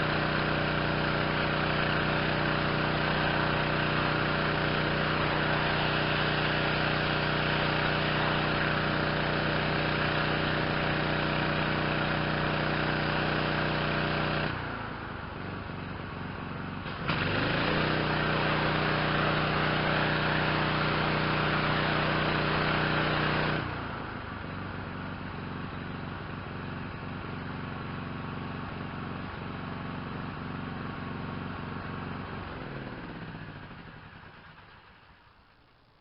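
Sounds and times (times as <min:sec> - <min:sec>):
pressure washer engine running: 0:00.0 - 0:36.0.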